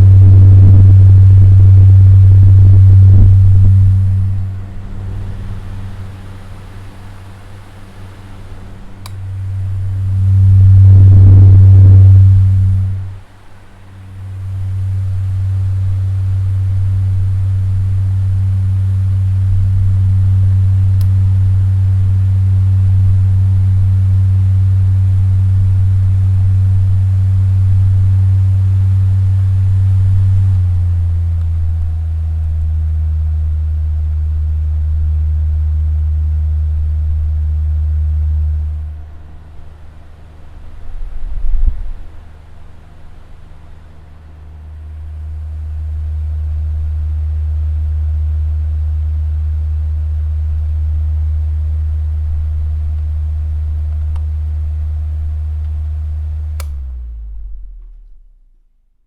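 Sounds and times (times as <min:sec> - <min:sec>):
electric fan humming: 0:00.0 - 0:58.5.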